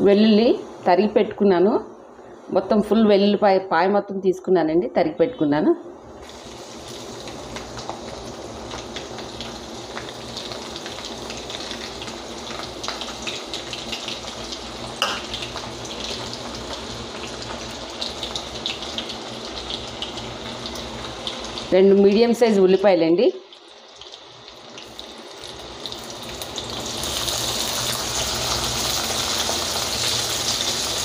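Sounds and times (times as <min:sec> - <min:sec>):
garlic and seeds sizzling in oil: 0:00.0 - 0:03.4, 0:05.5 - 0:31.0.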